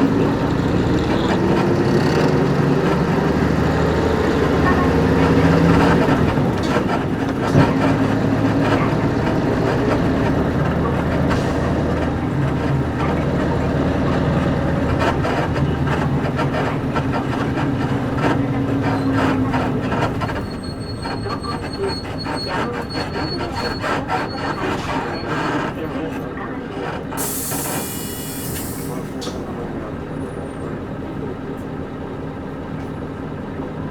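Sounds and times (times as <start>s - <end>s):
bus diesel engine pulling: 0.0s - 33.9s.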